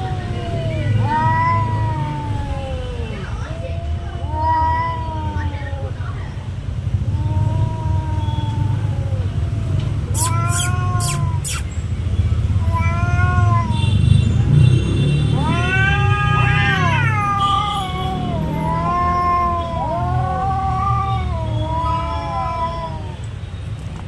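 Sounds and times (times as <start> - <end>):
cats yowling: 0.0 - 11.7, 12.6 - 13.9, 15.3 - 23.4.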